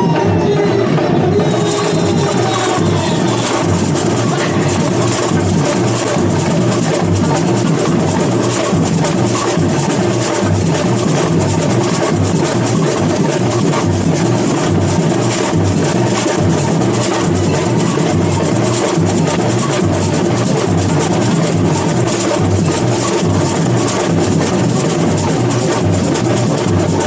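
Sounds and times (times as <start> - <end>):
deep drums beating: 0.0 - 27.0
samba percussion band playing: 0.0 - 27.0.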